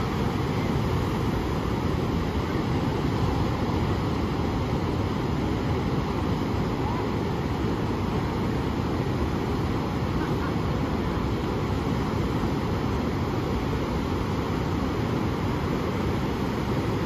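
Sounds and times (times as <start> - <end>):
ocean surf roaring: 0.0 - 17.0
waves washing up on beach: 0.0 - 17.0.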